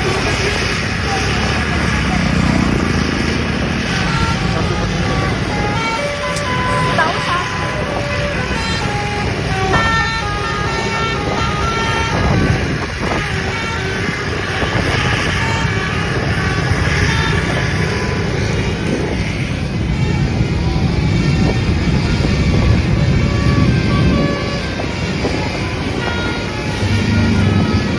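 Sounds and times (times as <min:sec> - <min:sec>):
bus engines rumbling: 0:00.0 - 0:27.9
multi-tone bus horn tune: 0:00.0 - 0:27.9
traffic: 0:00.0 - 0:27.9.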